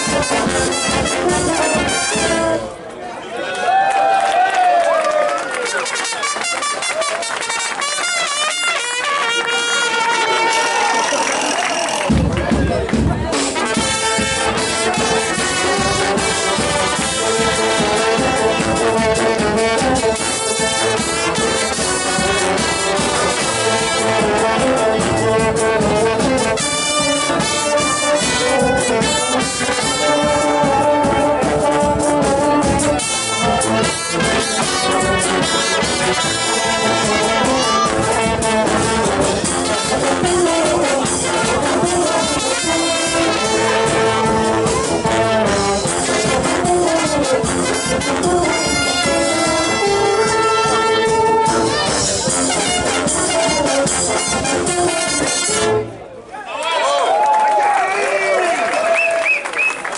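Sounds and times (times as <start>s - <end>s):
brass band playing: 0.0s - 2.9s, 5.5s - 56.2s.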